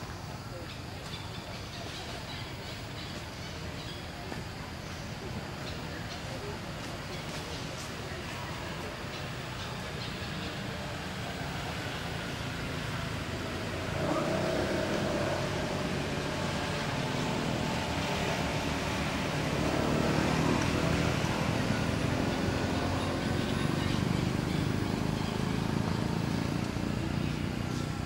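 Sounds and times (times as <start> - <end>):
low rumble of distant traffic: 0.0 - 28.0.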